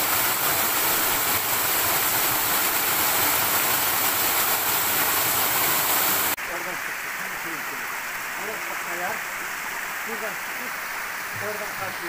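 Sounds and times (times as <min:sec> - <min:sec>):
small waterfall rushing: 0:00.0 - 0:12.0.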